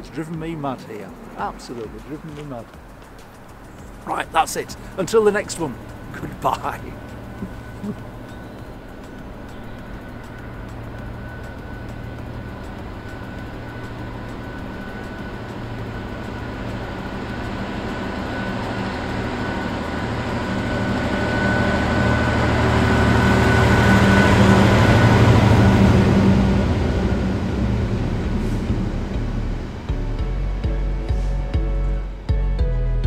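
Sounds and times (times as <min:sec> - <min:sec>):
thin high whine: 0:00.0 - 0:32.1
diesel locomotive engine drone: 0:00.0 - 0:33.0.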